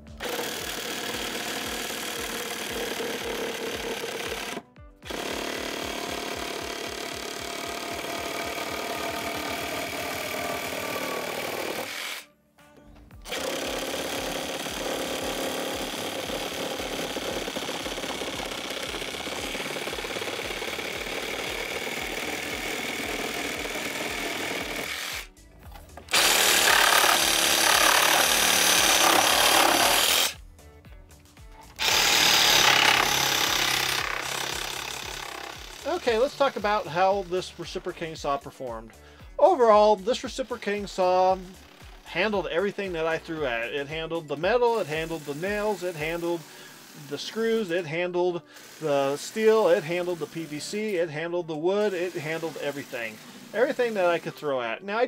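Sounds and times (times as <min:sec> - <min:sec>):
reciprocating saw cutting wood: 0:00.0 - 0:12.3, 0:13.2 - 0:25.4, 0:26.1 - 0:30.4, 0:31.6 - 0:38.1, 0:40.1 - 0:54.5.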